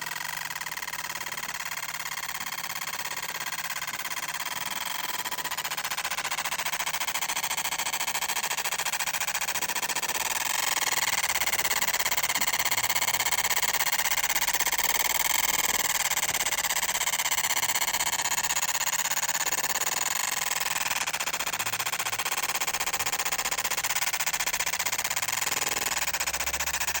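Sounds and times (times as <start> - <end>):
laser machine pulsing buzz: 0.0 - 27.0.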